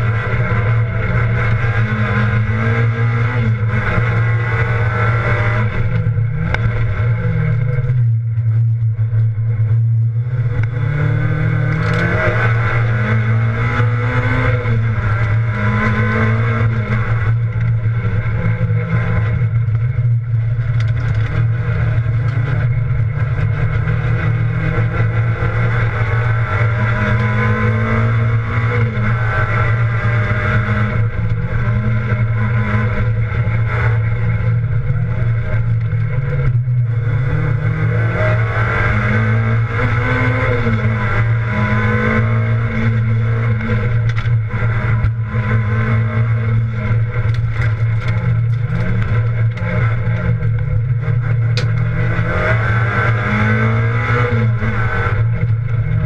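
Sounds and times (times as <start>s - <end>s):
rally car engine revving: 0.0s - 56.0s
road noise: 0.0s - 56.0s.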